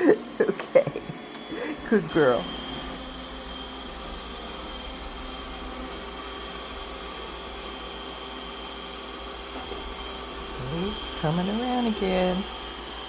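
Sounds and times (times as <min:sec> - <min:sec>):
robot vacuum whirring hum: 0:00.0 - 0:13.0.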